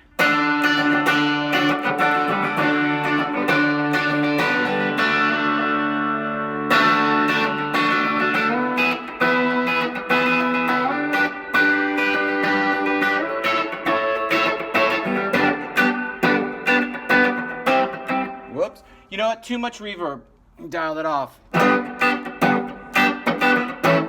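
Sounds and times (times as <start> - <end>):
electric guitar chords and notes: 0.0 - 18.6, 21.5 - 24.0.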